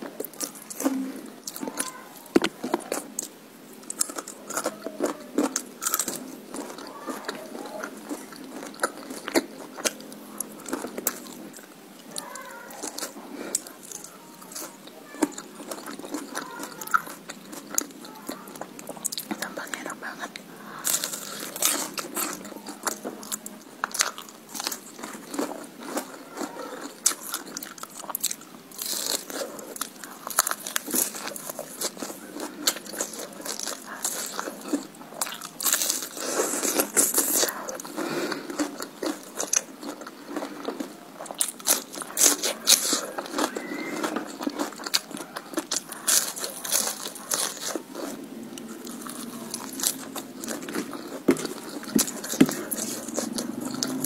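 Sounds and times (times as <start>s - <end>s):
crunching and chewing food: 0.0s - 54.0s.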